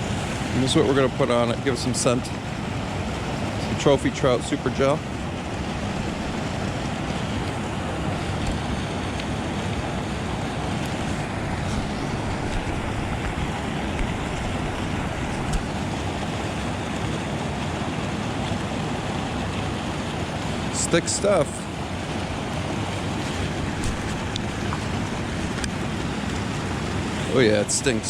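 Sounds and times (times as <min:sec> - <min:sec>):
water spilling over a dam: 0:00.0 - 0:28.0.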